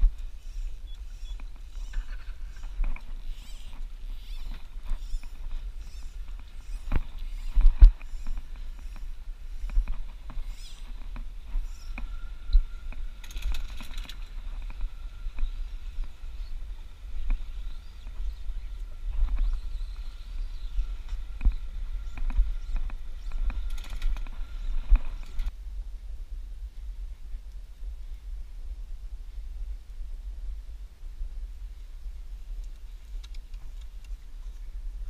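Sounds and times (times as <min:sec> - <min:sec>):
faint steady whine: 0:00.0 - 0:35.0
wind rumbling on microphone: 0:00.0 - 0:35.0.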